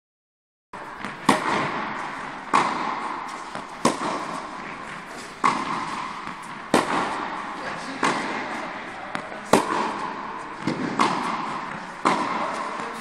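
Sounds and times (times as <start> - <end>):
tennis ball bounces: 0.8 - 13.0
tennis balls struck with rackets: 0.8 - 13.0.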